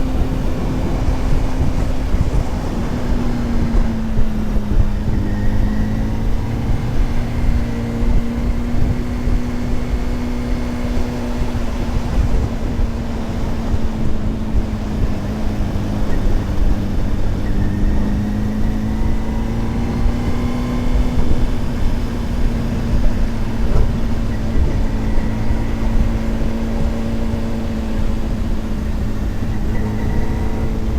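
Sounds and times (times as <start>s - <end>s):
motorcycle engine cruising: 0.0s - 30.9s
wind rush on microphone: 0.0s - 30.9s.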